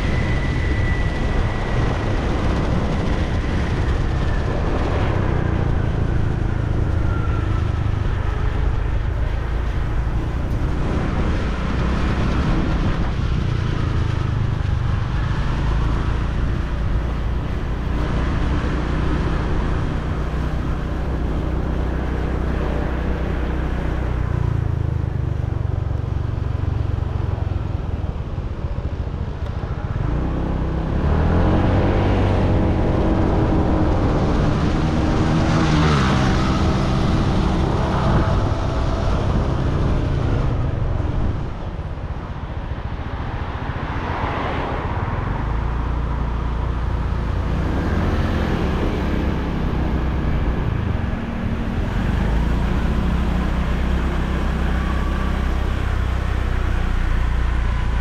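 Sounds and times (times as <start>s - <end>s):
scooter engine and road noise: 0.0s - 58.0s.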